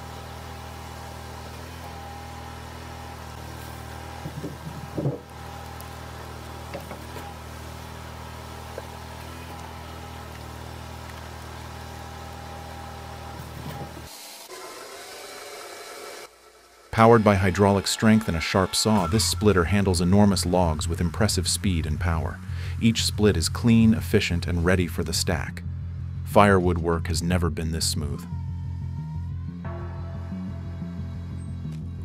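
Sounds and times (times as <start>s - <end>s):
machine engine running: 0.0s - 27.4s.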